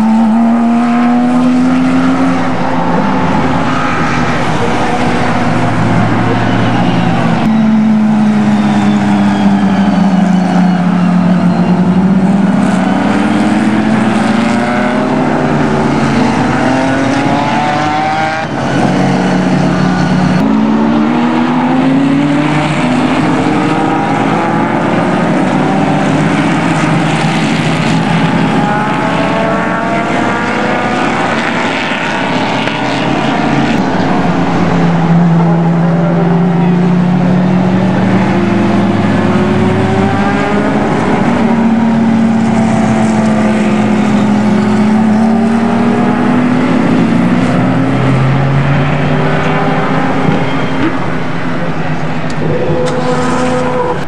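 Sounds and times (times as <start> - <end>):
race cars passing at speed: 0.0 - 54.0.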